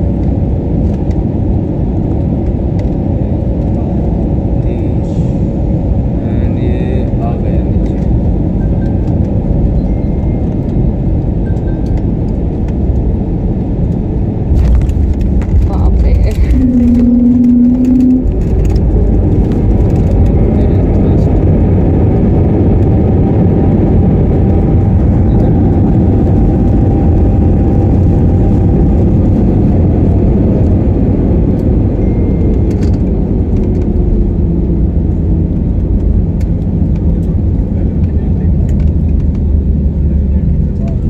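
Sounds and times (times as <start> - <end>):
faint engine whine: 0.0 - 41.0
jet engine roar: 0.0 - 41.0.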